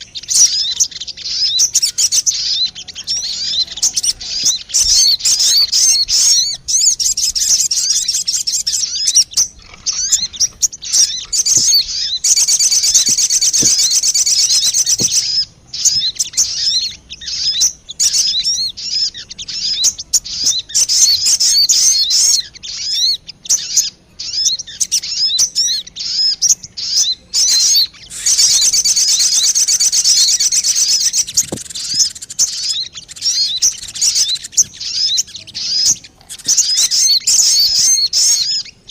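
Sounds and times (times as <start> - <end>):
bird chirps and twittering: 0.0 - 38.9
long fast bird trills: 0.0 - 38.9.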